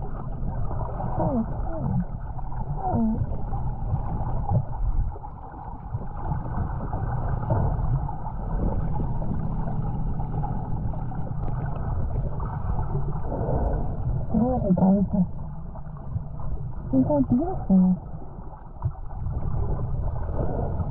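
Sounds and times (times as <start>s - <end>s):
faint shoreline water: 0.0s - 20.9s.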